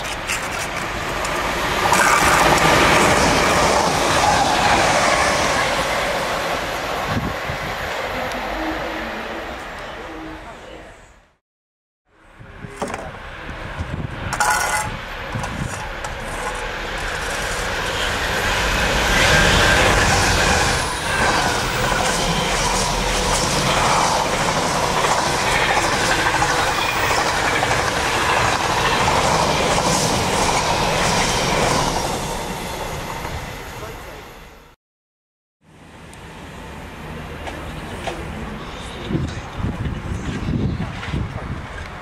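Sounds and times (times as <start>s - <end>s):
diesel locomotive passing: 0.0s - 11.2s, 12.2s - 34.8s, 35.7s - 42.0s.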